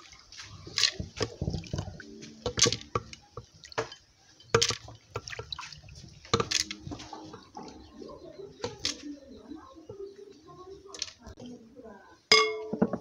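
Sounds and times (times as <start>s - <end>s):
water pouring and splashing: 0.0s - 11.6s.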